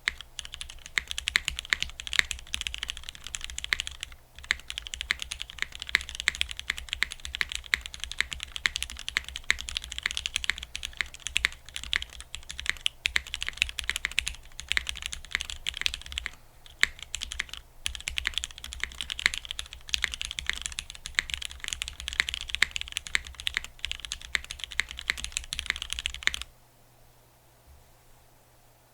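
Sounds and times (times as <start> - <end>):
fast mechanical keyboard typing: 0.0 - 26.5.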